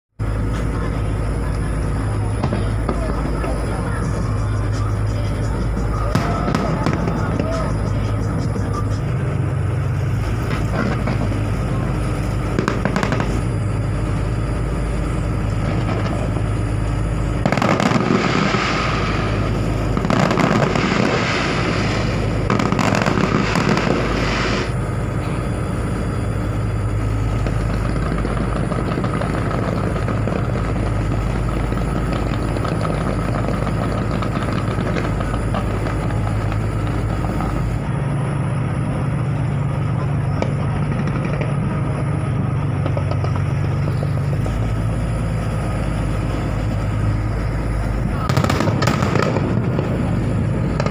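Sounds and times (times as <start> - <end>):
distant fireworks: 0.2 - 50.9
steady low hum: 0.2 - 50.9.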